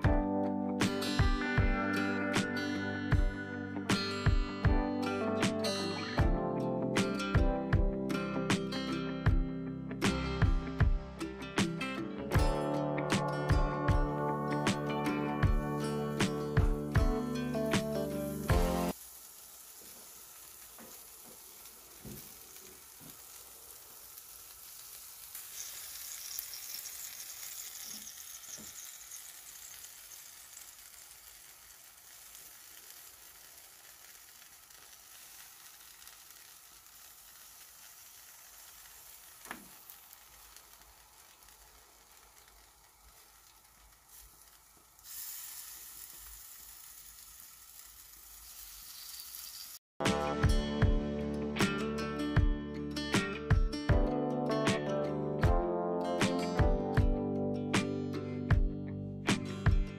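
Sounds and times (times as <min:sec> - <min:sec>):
food sizzling on a grill: 0:00.7 - 0:06.2, 0:07.0 - 0:50.6.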